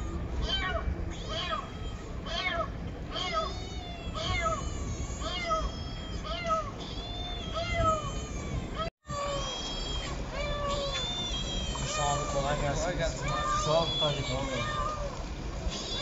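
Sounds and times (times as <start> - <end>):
cat meowing: 0.0 - 16.0.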